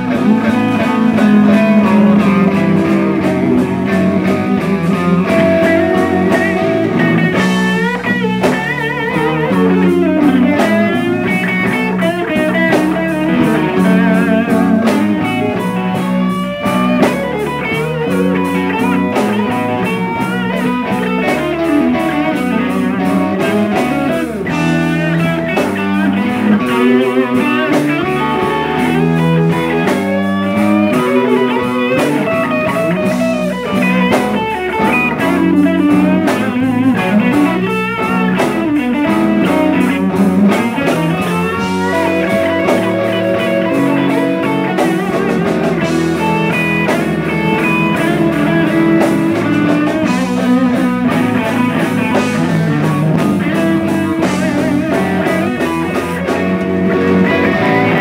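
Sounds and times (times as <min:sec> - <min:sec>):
blues band playing: 0:00.0 - 0:58.0
lead guitar bending notes: 0:00.0 - 0:58.0.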